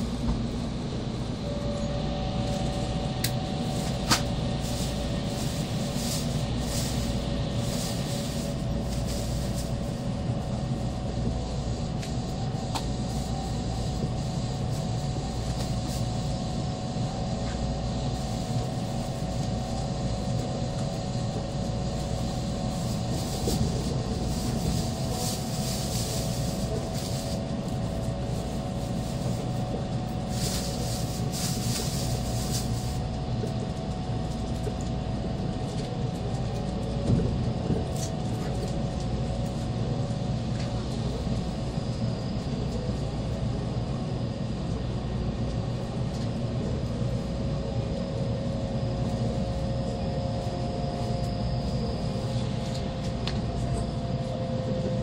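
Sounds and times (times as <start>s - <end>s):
constant tonal hum: 0.0s - 55.0s
train cabin rumble: 0.0s - 55.0s.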